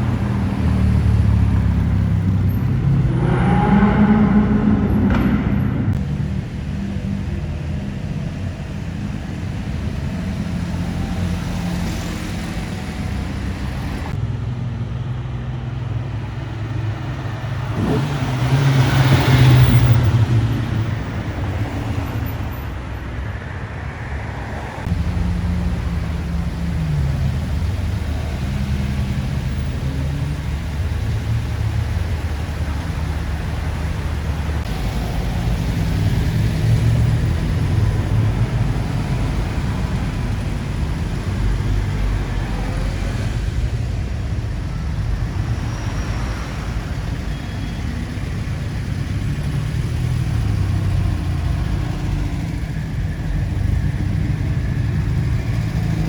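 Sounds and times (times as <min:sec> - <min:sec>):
car engines running: 0:00.0 - 0:56.0.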